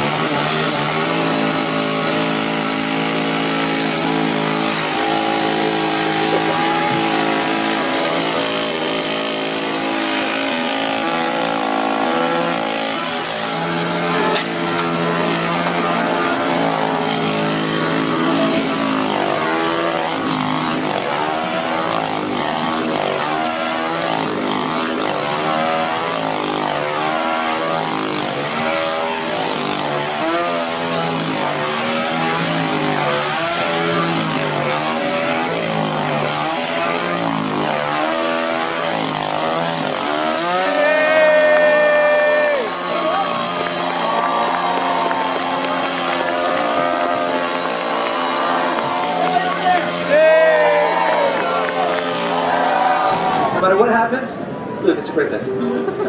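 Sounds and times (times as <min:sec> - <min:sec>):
chainsaw engine running: 0:00.0 - 0:53.8.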